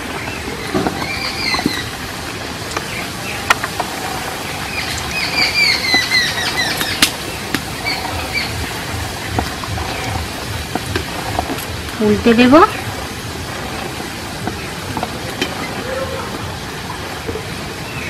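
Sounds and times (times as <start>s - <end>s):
birds chattering: 0.0s - 18.0s
dough sizzling in hot oil: 0.0s - 18.0s.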